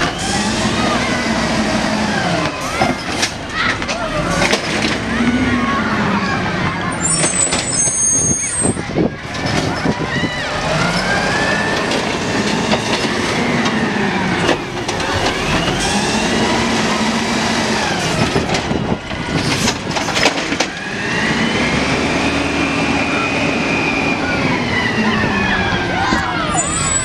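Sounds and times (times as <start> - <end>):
truck engine and hydraulics whining: 0.0 - 27.0.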